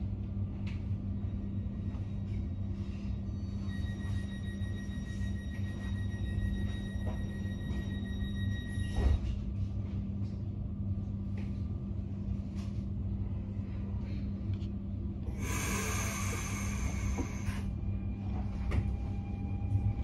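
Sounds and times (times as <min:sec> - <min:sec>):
train low hum: 0:00.0 - 0:20.0.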